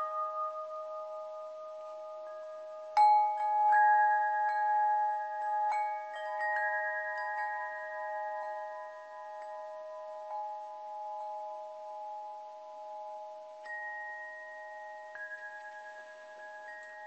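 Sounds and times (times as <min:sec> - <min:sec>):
bell-like chimes ringing: 0:00.0 - 0:17.0.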